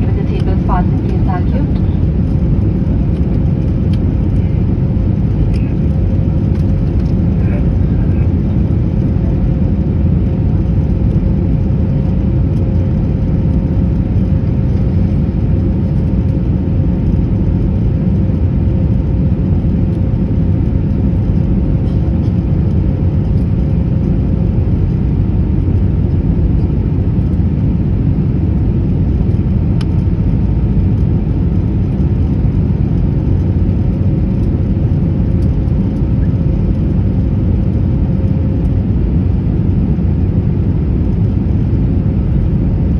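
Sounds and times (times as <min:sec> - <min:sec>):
aircraft cabin rumble: 0:00.0 - 0:42.9
faint steady hum: 0:00.0 - 0:42.9.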